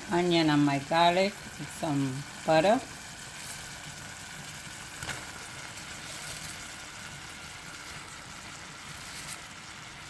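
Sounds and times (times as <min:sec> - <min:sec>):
greens sizzling in butter: 0:00.0 - 0:10.0.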